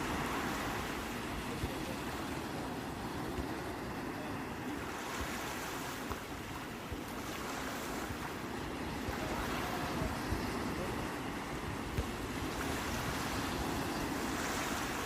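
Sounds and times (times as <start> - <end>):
sea waves washing: 0.0 - 15.0.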